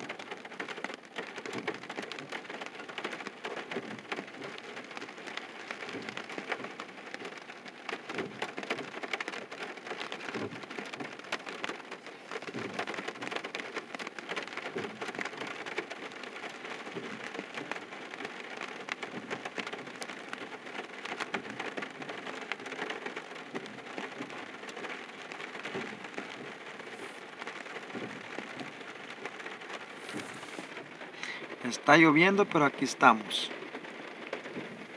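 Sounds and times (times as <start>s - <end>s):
rain falling on a car: 0.0s - 34.9s.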